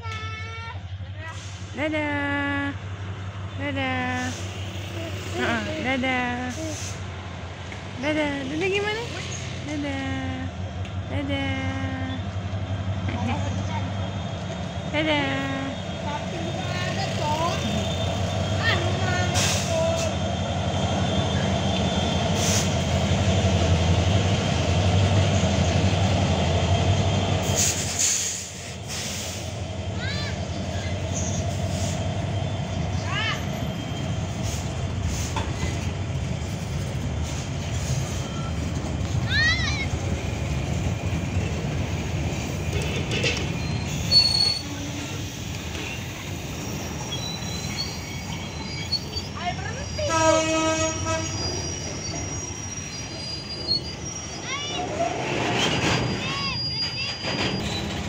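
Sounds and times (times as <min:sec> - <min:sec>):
diesel locomotives rumbling: 0:00.0 - 0:58.0
train wagons passing: 0:00.0 - 0:58.0.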